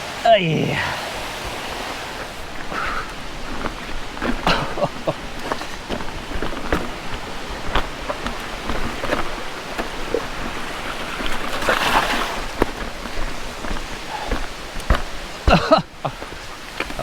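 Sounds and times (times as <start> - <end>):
tyre and wind rushing: 0.0 - 17.0
bike rattling clicks and knocks: 2.4 - 17.0.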